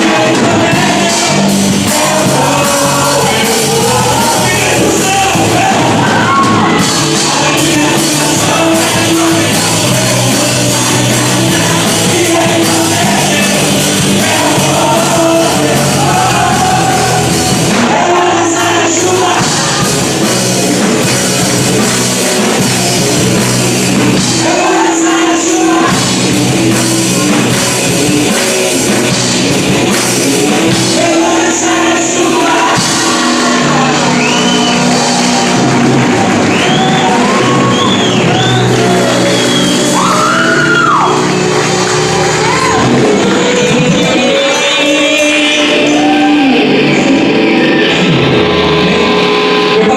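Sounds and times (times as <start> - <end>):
live band playing rock song: 0.0 - 49.9
person singing: 0.0 - 49.9.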